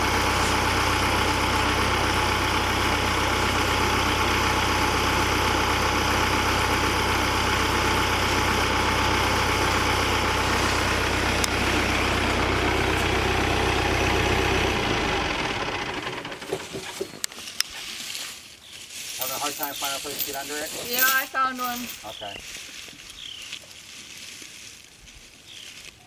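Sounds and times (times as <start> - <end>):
tractor engine idling: 0.0 - 17.8, 19.2 - 22.5.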